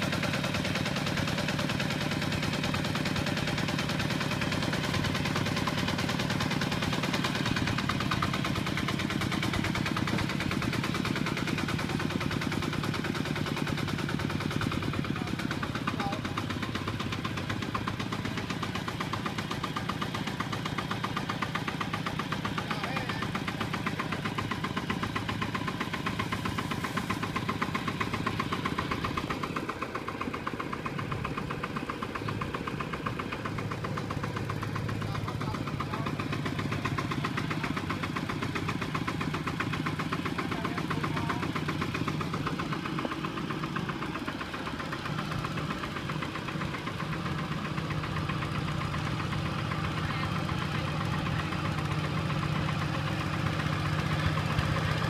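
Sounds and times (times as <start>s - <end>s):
diesel tractor engine knocking: 0.0s - 55.0s.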